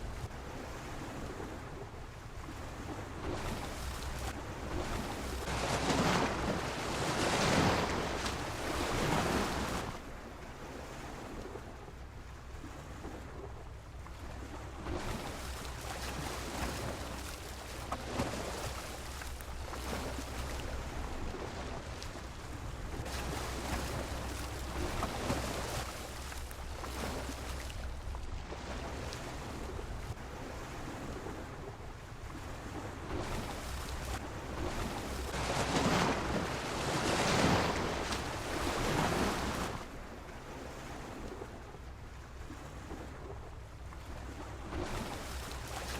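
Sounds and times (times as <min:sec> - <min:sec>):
sea waves splashing against a pier: 0:00.0 - 0:45.9
wind rumble on microphone: 0:00.0 - 0:45.9.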